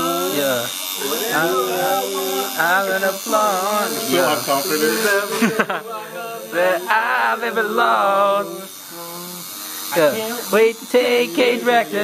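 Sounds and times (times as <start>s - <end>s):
men singing a cappella: 0.0s - 12.0s.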